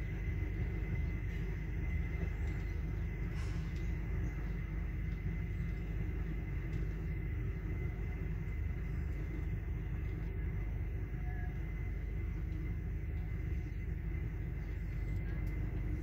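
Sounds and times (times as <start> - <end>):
faint high whine: 0.0 - 16.0
low rumble of train rolling: 0.0 - 16.0.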